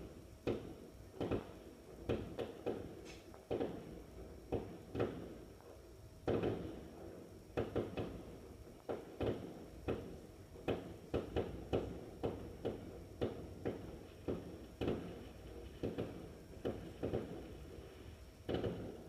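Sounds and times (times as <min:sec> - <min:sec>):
fireworks bangs: 0:00.0 - 0:05.4, 0:06.2 - 0:19.0.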